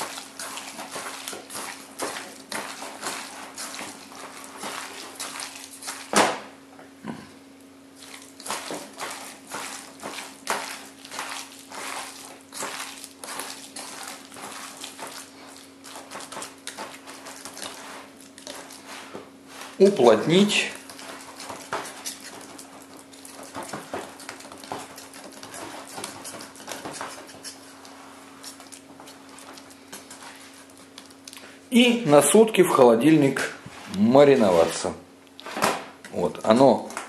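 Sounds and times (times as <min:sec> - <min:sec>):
hands kneading wet meat: 0:00.0 - 0:06.7, 0:07.6 - 0:37.0
faint steady hum: 0:00.0 - 0:37.0.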